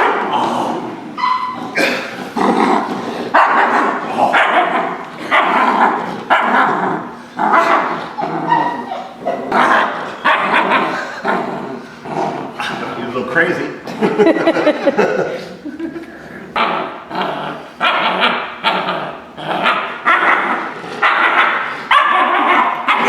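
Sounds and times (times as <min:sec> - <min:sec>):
young dog growling: 0:00.0 - 0:13.1, 0:13.8 - 0:23.0.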